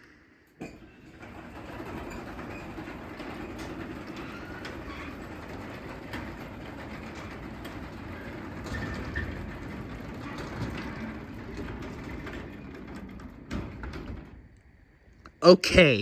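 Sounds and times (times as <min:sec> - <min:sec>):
garage door rumbling down tracks: 0:00.5 - 0:15.1.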